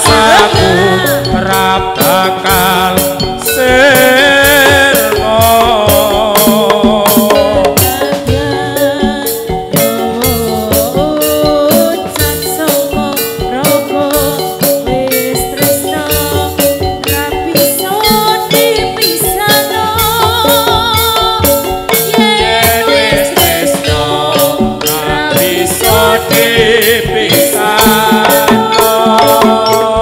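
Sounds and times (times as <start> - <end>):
steady drumming: 0.0 - 30.0
wavering ornamented melody: 0.0 - 30.0.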